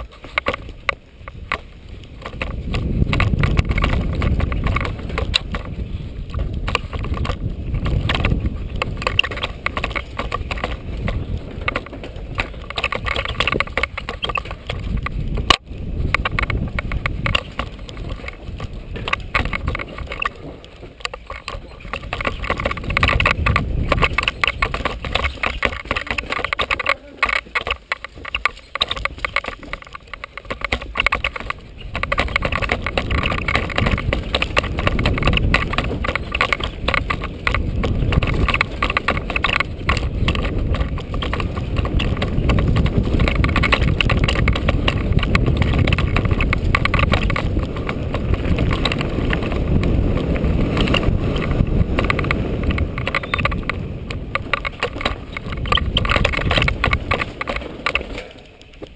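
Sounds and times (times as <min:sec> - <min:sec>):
bike rattling and clattering: 0:00.0 - 0:58.9
tyres rumbling over dirt: 0:00.0 - 0:58.9
wind on microphone: 0:00.0 - 0:58.9.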